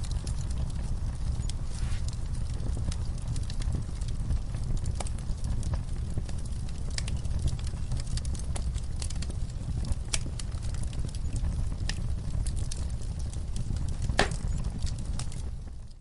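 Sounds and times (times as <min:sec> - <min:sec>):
fire crackles and pops: 0:00.0 - 0:16.0
low rumble of fire: 0:00.0 - 0:16.0.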